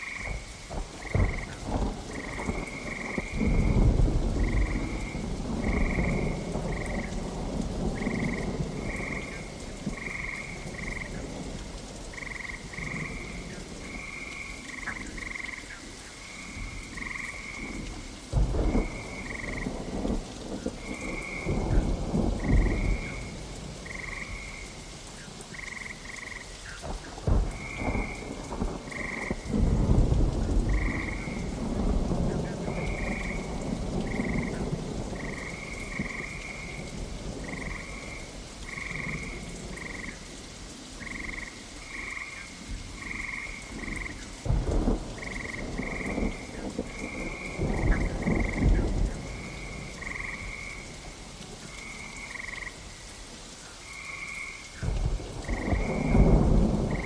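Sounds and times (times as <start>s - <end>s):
thunder rumbling: 0.0s - 15.6s, 16.4s - 52.9s, 54.7s - 57.0s
steady rain: 0.0s - 57.0s.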